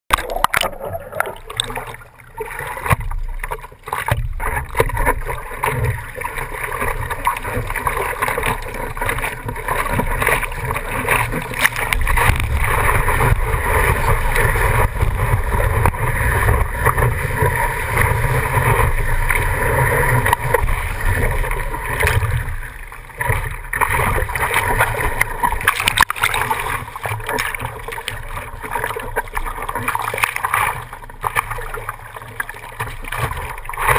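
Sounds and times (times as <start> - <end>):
water rushing and splashing: 0.1 - 33.9.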